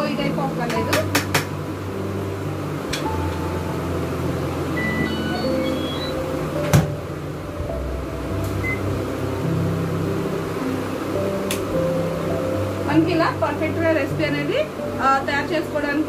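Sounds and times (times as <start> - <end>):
light background music: 0.0 - 16.0
microwave oven humming: 0.0 - 16.0.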